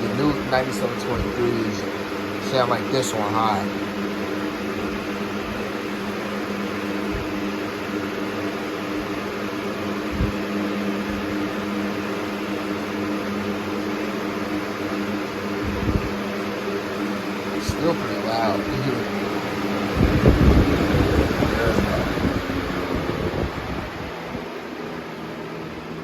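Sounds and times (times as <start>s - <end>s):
box fan running: 0.0s - 26.0s.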